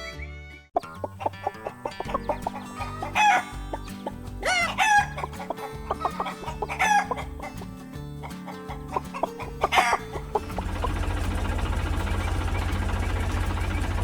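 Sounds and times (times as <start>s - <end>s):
light background music: 0.0s - 13.8s
chicken calls: 0.8s - 14.0s.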